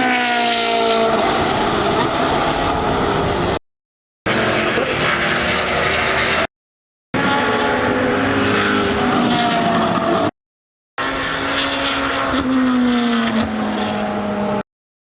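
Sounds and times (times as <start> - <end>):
race car engines passing: 0.0 - 3.6, 4.3 - 6.5, 7.2 - 10.3, 11.0 - 14.6.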